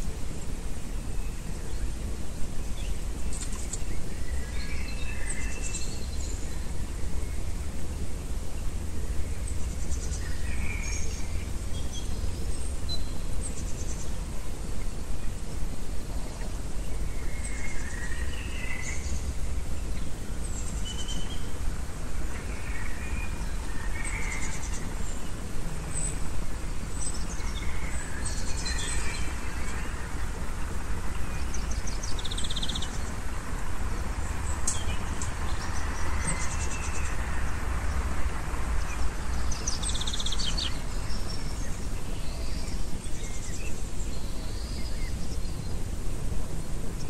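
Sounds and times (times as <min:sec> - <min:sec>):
low outdoor rumble: 0:00.0 - 0:47.0
small birds chirping: 0:00.0 - 0:47.0
songbirds calling: 0:00.0 - 0:47.0.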